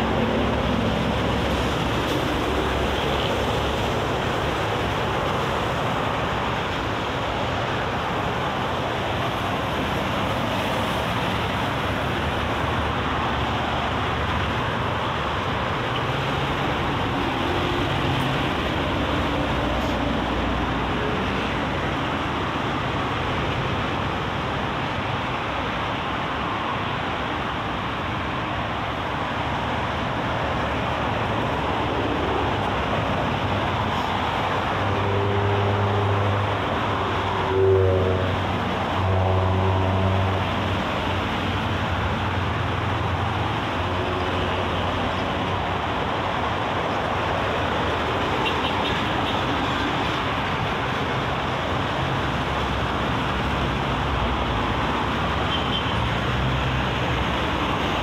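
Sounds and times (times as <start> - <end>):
expressway traffic: 0.0 - 58.0.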